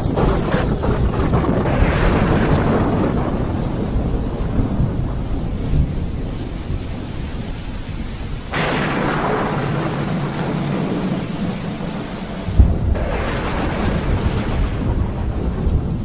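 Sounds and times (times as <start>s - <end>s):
sharp thunder crack: 0.0s - 6.5s, 8.5s - 16.0s
steady rain: 0.0s - 16.0s
thunder rumbling: 0.0s - 16.0s.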